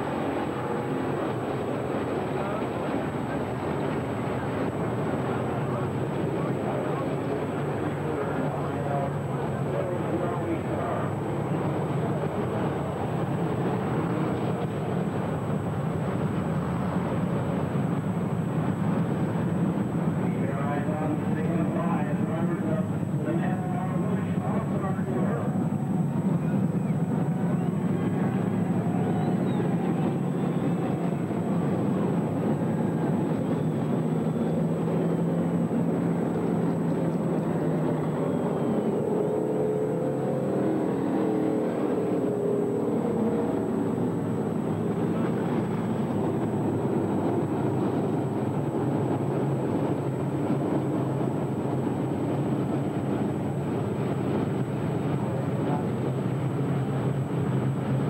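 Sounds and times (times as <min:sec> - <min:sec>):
race car engines droning: 0:00.0 - 0:58.0.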